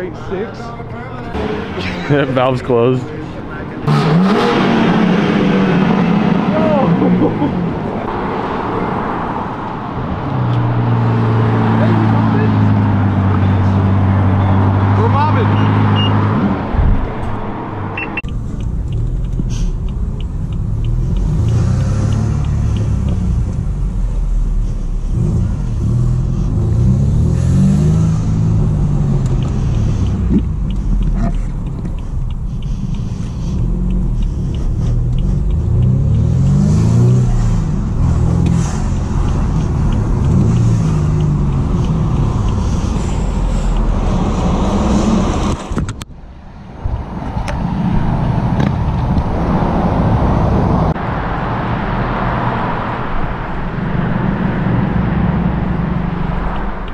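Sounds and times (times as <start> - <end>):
car engine revving: 1.2 - 46.0, 47.2 - 56.9.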